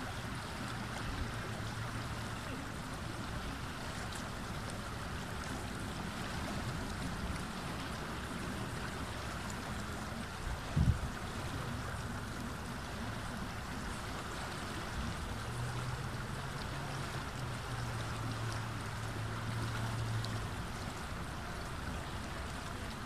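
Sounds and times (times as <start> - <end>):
river water flowing over rocks: 0.0 - 23.0.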